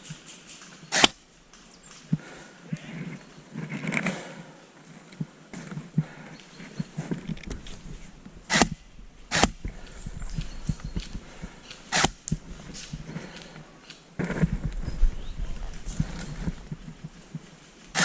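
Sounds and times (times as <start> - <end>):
light crackling and rustling: 0.0 - 18.0.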